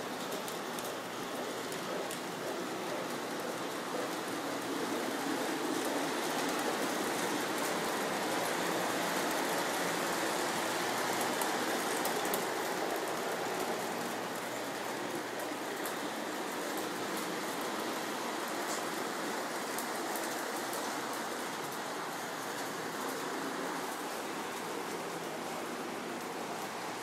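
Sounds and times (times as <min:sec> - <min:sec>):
toy train rolling on track: 0:00.0 - 0:27.0.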